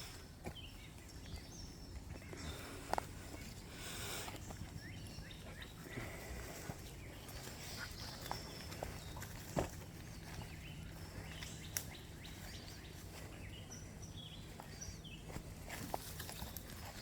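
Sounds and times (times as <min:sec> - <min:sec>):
low outdoor background: 0:00.0 - 0:17.0
small birds chirping: 0:00.0 - 0:17.0.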